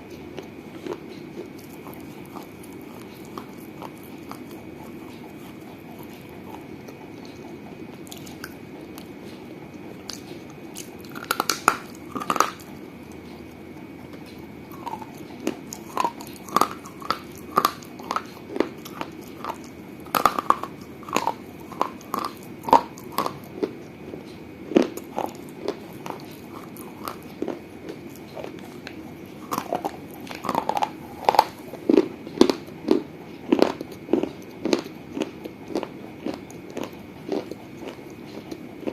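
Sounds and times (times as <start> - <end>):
person chewing brittle clay: 0.1 - 38.9.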